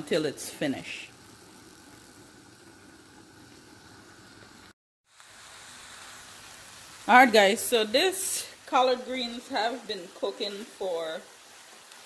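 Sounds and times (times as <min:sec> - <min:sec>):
pan simmering hiss: 0:00.0 - 0:12.0.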